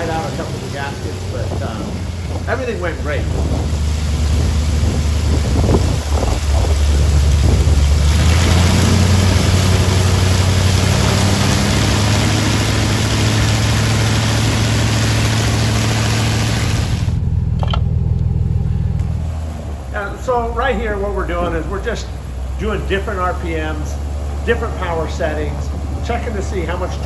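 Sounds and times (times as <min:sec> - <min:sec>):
aircraft engine running: 0:00.0 - 0:27.0.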